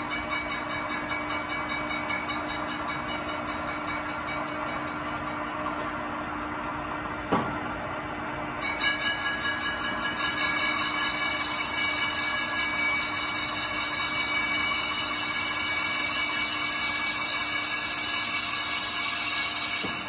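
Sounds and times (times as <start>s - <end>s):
metal lathe turning: 0.0s - 5.7s, 8.6s - 20.0s.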